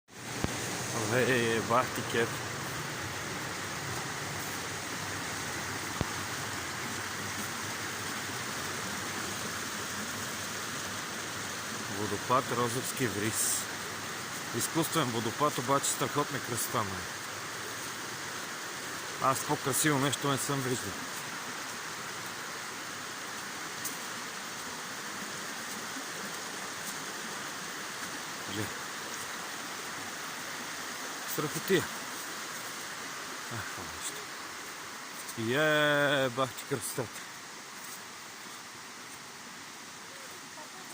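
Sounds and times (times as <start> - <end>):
falling water rushing: 0.1 - 40.9.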